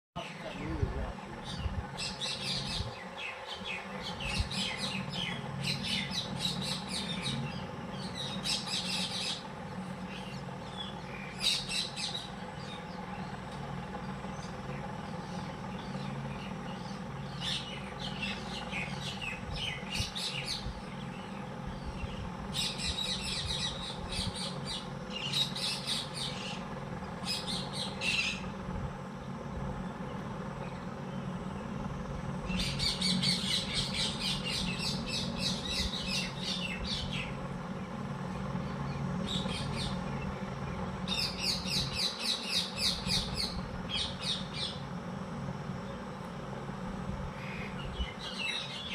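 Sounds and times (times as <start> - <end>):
low steady hum: 0.2 - 48.9
small birds chirping: 0.2 - 48.9.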